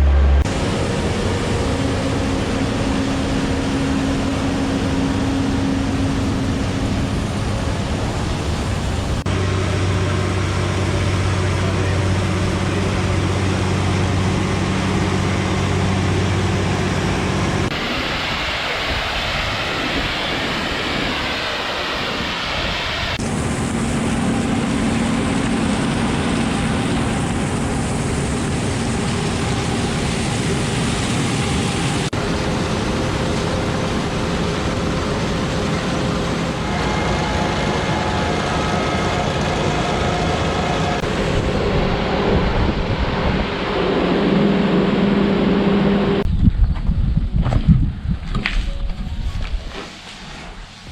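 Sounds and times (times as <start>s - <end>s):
farm machinery engine running: 0.0s - 46.3s.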